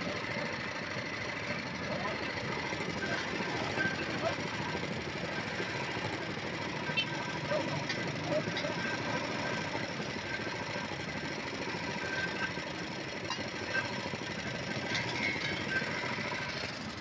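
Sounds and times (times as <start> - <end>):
engine running with knocking chug: 0.0 - 17.0.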